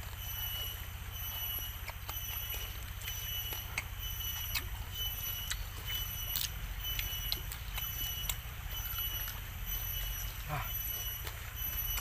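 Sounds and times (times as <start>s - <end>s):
crisp chewing crunches: 0.0s - 12.0s
steady high-pitched whine: 0.0s - 12.0s.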